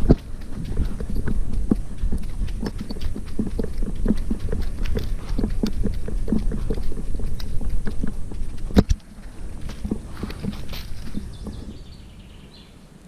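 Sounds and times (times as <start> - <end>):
dog paws thudding on dry leaves: 0.0 - 12.0
steady low rumble: 0.0 - 13.0.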